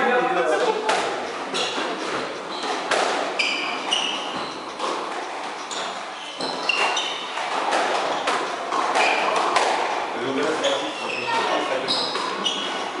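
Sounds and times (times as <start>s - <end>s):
sneakers squeaking on wooden floor: 0.7s - 13.0s
squash ball cracking off rackets: 0.8s - 10.9s, 11.8s - 13.0s.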